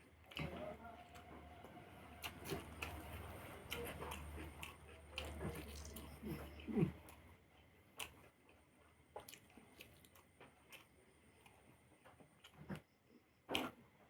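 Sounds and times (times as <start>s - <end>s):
person chewing food: 0.0s - 13.9s.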